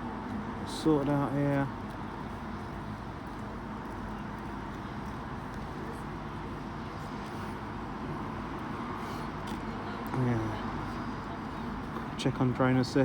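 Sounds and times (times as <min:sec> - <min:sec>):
city street rumble: 0:00.0 - 0:13.0
passing traffic: 0:00.0 - 0:13.0.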